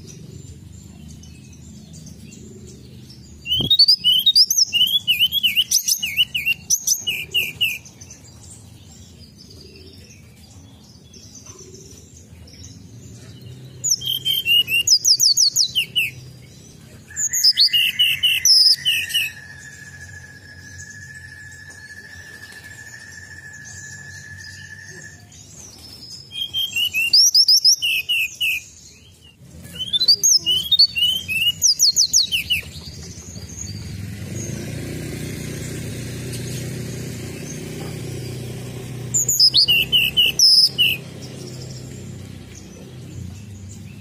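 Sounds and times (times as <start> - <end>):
songbird chirping: 0.0 - 44.0.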